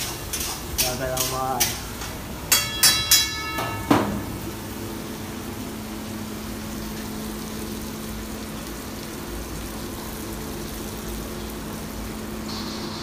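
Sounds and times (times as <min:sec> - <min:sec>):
constant low hum: 0:00.0 - 0:13.0
gas burner hissing: 0:00.0 - 0:13.0.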